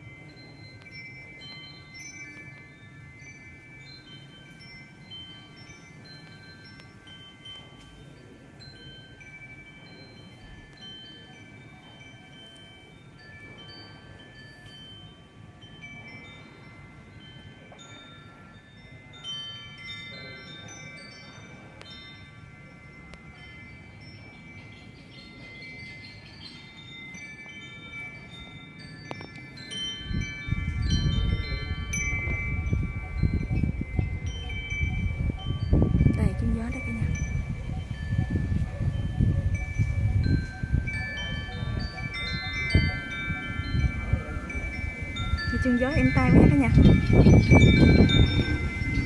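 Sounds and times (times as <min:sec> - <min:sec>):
wind chimes ringing: 0:00.0 - 0:49.0.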